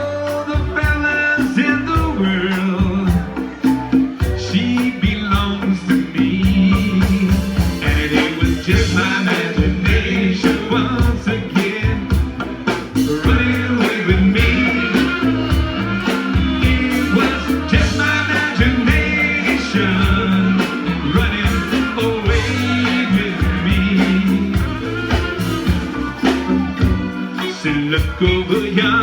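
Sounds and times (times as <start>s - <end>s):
bass line: 0.0s - 29.0s
bending melodic lead line: 0.0s - 29.0s
drums: 0.0s - 29.0s.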